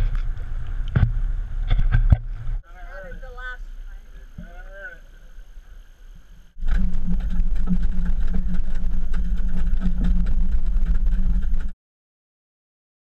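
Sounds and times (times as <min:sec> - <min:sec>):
boat engine idling: 0:00.0 - 0:11.7.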